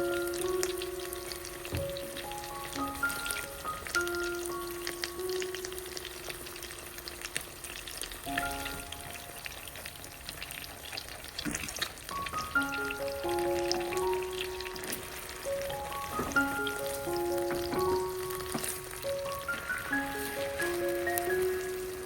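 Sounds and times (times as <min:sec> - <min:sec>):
food sizzling in hot oil: 0:00.0 - 0:22.0
light background music: 0:00.0 - 0:22.0.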